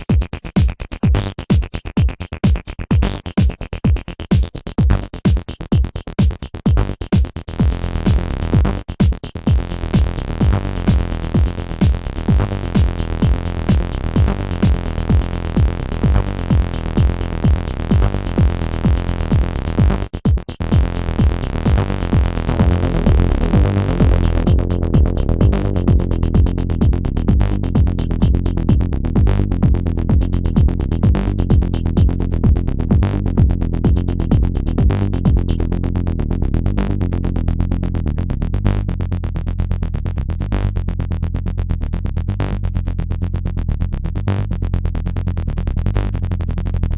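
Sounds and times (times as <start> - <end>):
drum machine beat: 0.0 - 38.1
synthesizer bassline: 1.1 - 3.4, 4.8 - 46.9.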